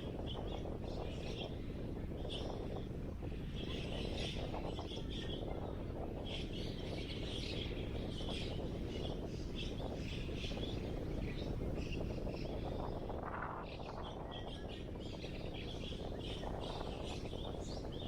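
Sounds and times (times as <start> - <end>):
low rumble of wind: 0.0 - 18.0
small birds chirping: 0.0 - 18.0.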